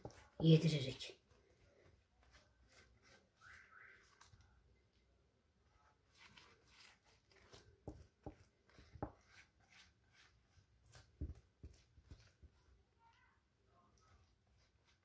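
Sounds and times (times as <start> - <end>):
pastry brush dabbing: 0.0 - 15.0.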